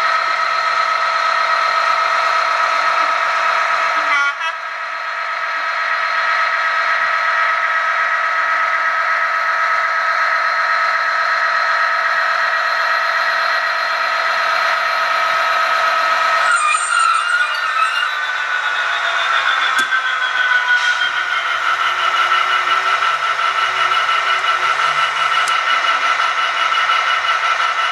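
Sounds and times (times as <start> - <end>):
droning engine tone from small speaker: 0.0 - 27.9.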